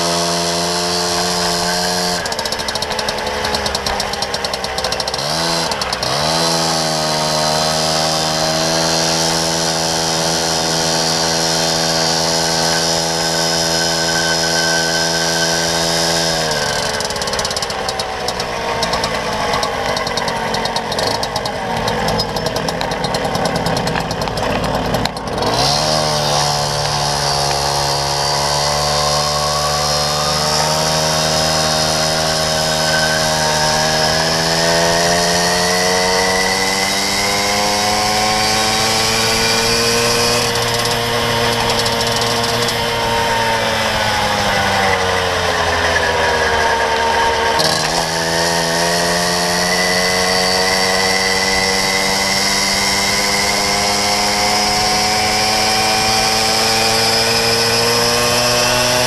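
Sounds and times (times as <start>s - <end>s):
moped engine buzzing: 0.0s - 59.0s.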